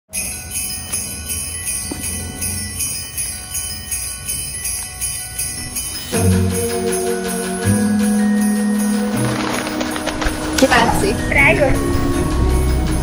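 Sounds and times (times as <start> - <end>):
jingle bells shaken: 0.1 - 13.0.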